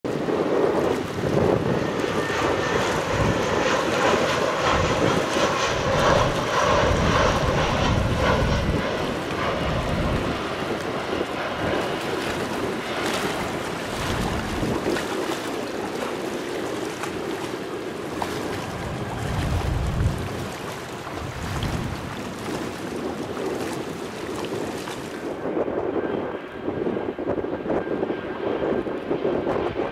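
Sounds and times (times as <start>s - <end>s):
jet airliner engines rumbling: 0.1s - 29.9s
wind buffeting microphone: 0.1s - 29.9s.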